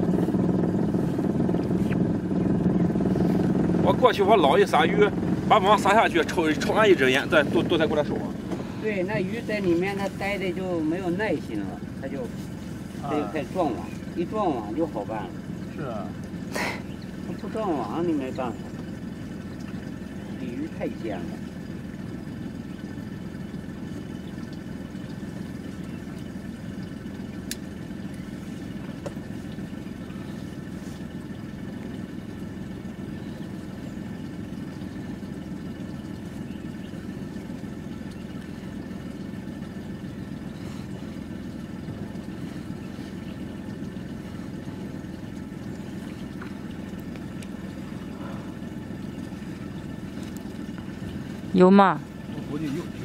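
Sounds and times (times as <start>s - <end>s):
boat engine idling: 0.0s - 53.0s.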